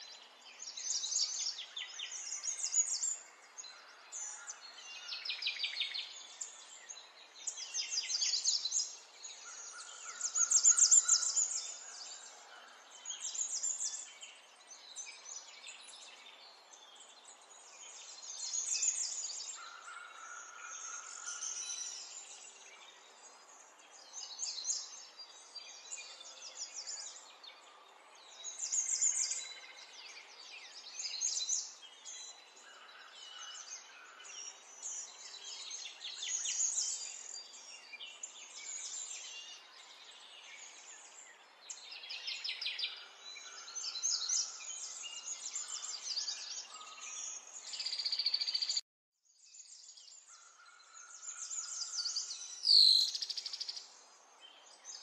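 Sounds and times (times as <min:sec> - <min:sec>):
birds chirping and trilling: 0:00.1 - 0:48.8, 0:49.4 - 0:55.0.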